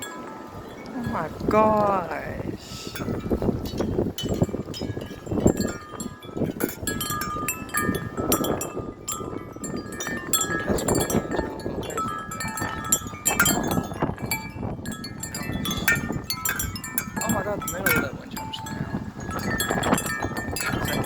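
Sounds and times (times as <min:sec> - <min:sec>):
metal wind chimes clanging: 0:00.0 - 0:21.0
wind rushing on microphone: 0:00.0 - 0:21.0.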